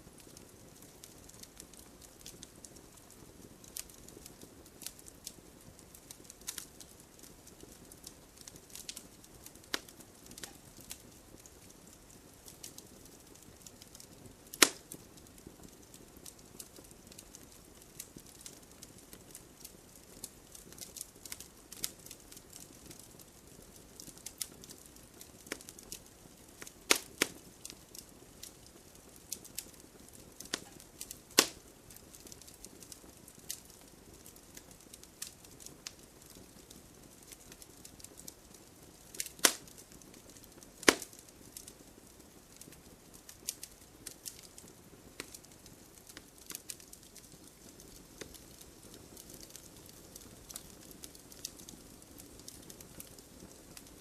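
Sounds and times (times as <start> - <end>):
low hiss of flame: 0.0 - 54.0
wood fire crackling and popping: 0.0 - 54.0.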